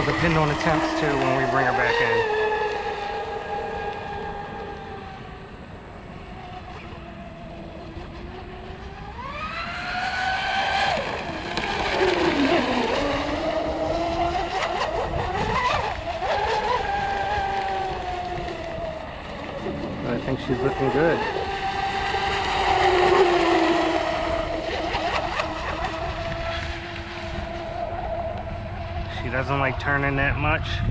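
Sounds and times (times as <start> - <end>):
electric motor whining: 0.0 - 30.5.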